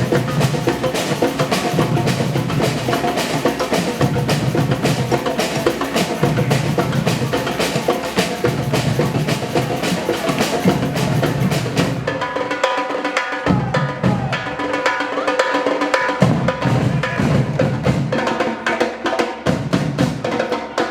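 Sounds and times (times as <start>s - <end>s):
marching drum band: 0.0s - 20.9s.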